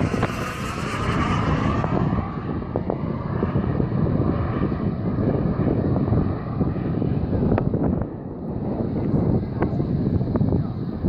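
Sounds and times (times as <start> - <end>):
jet engine with whine: 0.0 - 11.0
wind buffeting microphone: 0.0 - 11.0.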